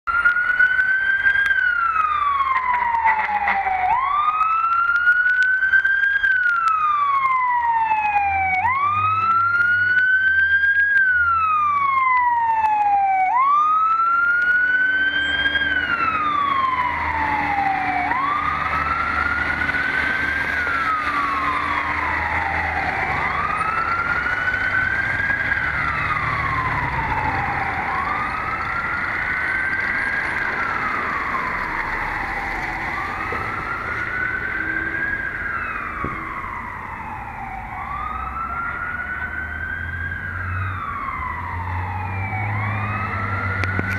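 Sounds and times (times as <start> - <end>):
fire engine siren wailing: 0.0 - 43.9
truck engine rumble: 0.1 - 43.9.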